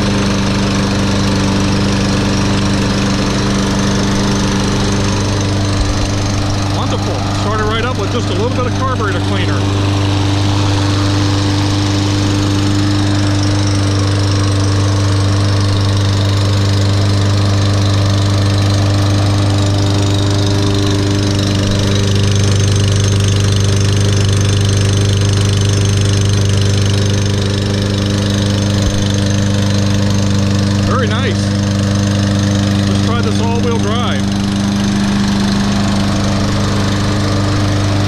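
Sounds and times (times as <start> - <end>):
lawn mower engine running: 0.0 - 38.0.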